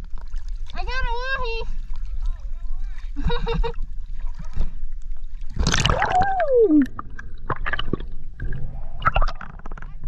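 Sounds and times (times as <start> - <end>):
water sloshing against camera: 0.0 - 10.0.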